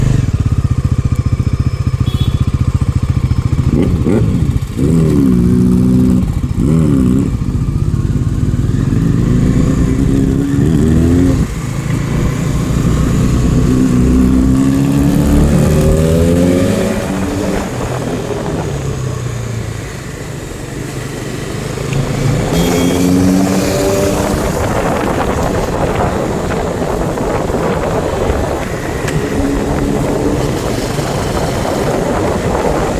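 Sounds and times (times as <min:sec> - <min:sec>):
motorcycle engine revving and accelerating: 0:00.0 - 0:32.9.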